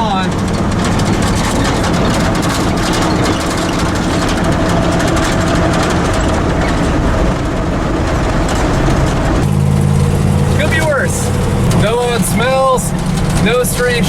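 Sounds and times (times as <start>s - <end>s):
road and wind noise: 0.0s - 14.0s
truck engine drone: 0.0s - 14.0s.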